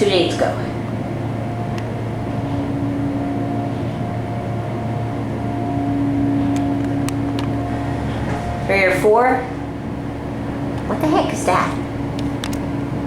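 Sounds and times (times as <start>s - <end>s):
constant whine: 0.0s - 13.0s
elevator motor hum: 0.0s - 13.0s.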